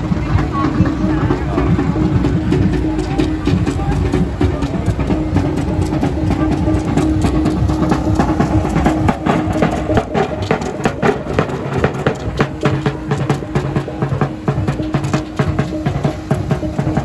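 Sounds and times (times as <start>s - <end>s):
drum ensemble drumming: 0.0s - 17.0s.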